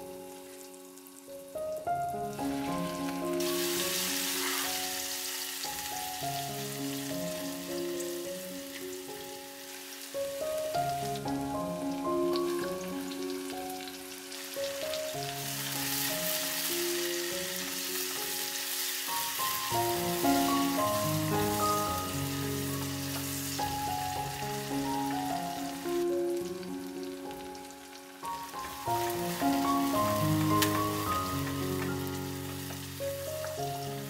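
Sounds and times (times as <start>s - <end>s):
background music with held notes: 0.0s - 34.0s
garlic and onion sizzling in oil: 0.0s - 34.0s.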